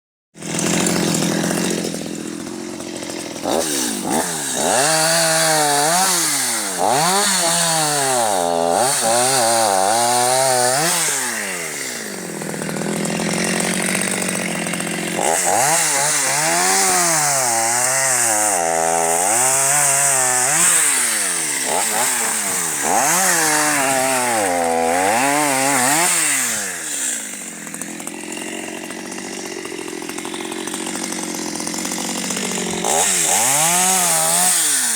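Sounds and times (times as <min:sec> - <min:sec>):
chainsaw cutting wood: 0:00.4 - 0:34.9.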